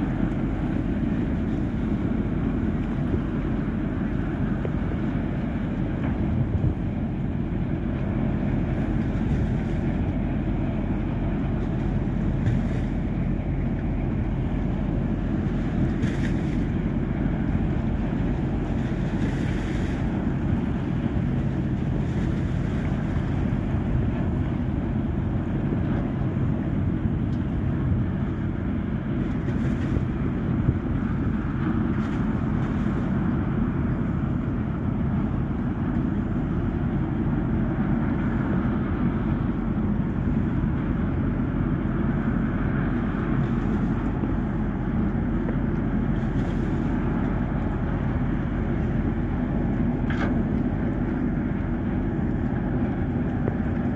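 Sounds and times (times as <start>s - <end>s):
ferry engines rumbling: 0.0s - 53.9s.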